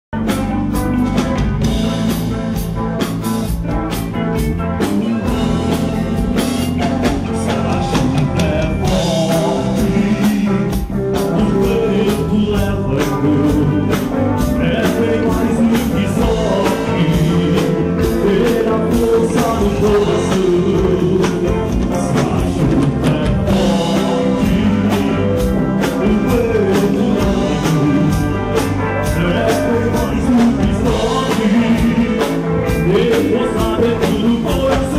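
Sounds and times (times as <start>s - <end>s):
bass guitar: 0.0s - 34.9s
drum kit: 0.1s - 34.9s
electric guitar: 0.1s - 34.9s
person singing: 4.6s - 34.9s.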